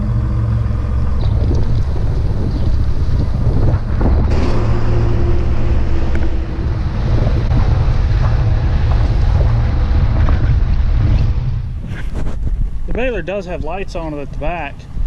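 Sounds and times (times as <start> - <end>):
truck rumble: 0.0 - 15.0
wind on microphone: 0.0 - 15.0.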